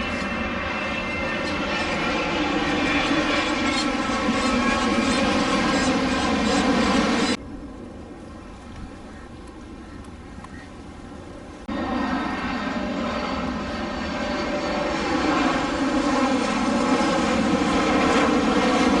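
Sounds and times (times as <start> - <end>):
jet engines whining on approach: 0.0 - 19.0.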